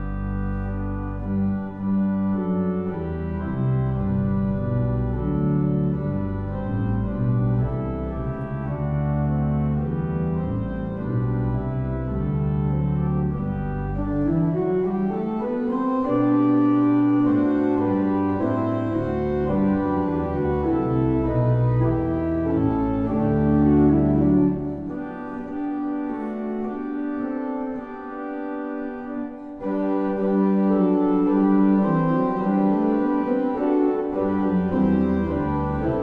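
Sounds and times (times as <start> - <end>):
church organ chords: 0.0 - 36.0.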